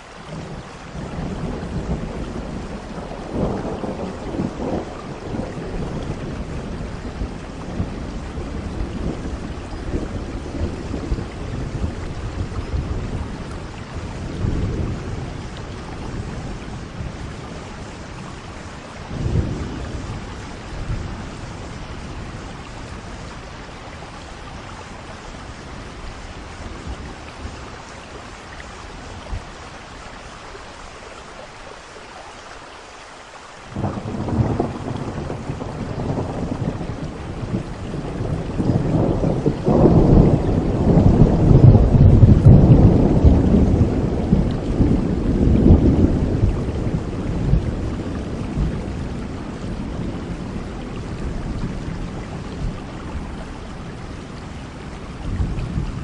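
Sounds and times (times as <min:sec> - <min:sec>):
thunder rumbling: 0:00.0 - 0:29.7, 0:33.7 - 0:56.0
steady rain: 0:00.0 - 0:56.0.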